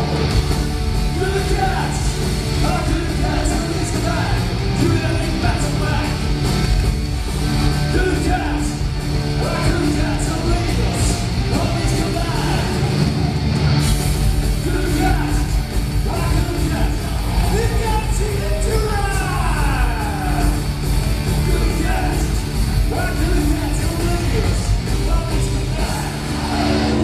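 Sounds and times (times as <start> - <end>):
heavy metal band playing live: 0.0 - 27.0.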